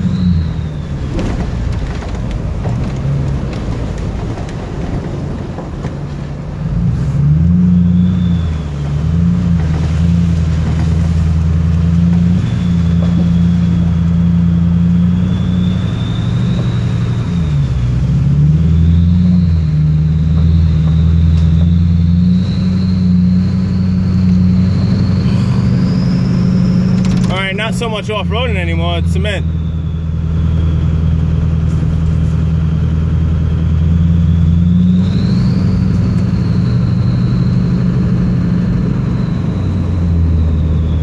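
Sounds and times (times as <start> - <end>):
turbo whistling: 0.0 - 4.1, 7.0 - 41.0
diesel pickup engine drone: 0.0 - 41.0.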